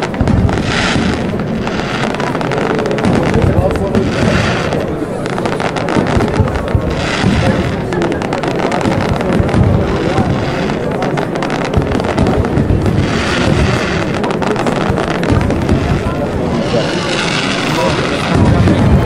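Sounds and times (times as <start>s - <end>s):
crowd voices: 0.0s - 19.0s
fireworks bangs and crackles: 0.0s - 19.0s.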